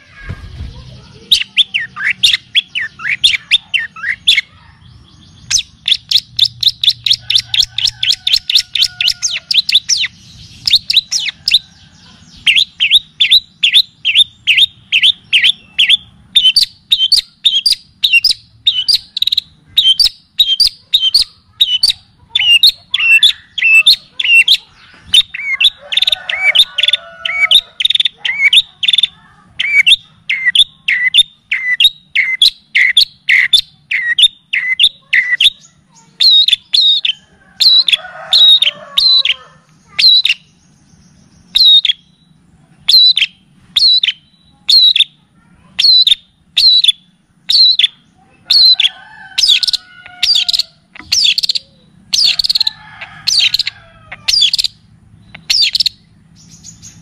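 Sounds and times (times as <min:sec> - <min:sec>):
soft twittering bird: 0:00.0 - 0:57.0.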